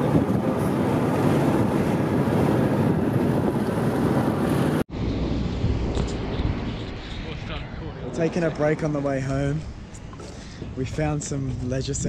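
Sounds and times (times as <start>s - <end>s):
low rumble: 0.0s - 10.1s
wind and road noise in car: 0.0s - 12.0s.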